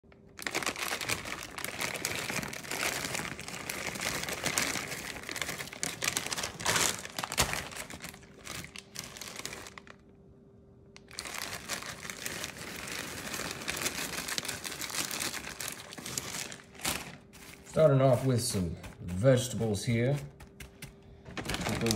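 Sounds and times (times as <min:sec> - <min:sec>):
plastic bag crinkling: 0:00.1 - 0:10.1, 0:11.0 - 0:21.9.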